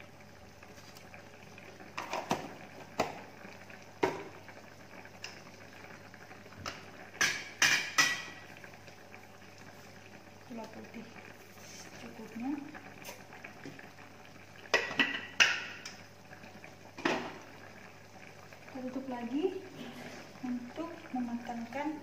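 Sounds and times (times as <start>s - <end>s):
broth simmering in a wok: 0.0s - 22.0s.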